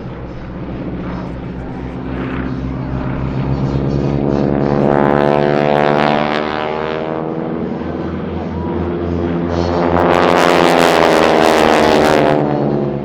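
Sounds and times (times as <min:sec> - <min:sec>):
propeller planes droning past: 0:00.0 - 0:13.0.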